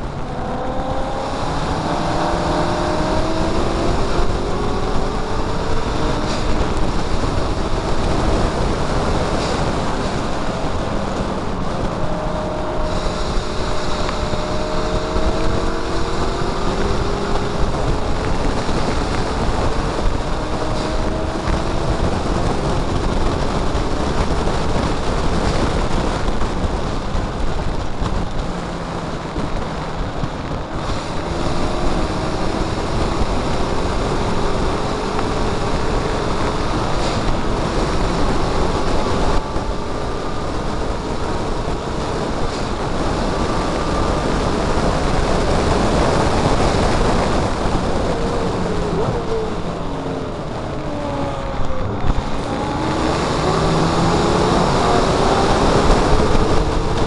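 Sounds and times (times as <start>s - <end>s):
car engine revving: 0.0s - 57.0s
wind rush on microphone: 0.0s - 57.0s.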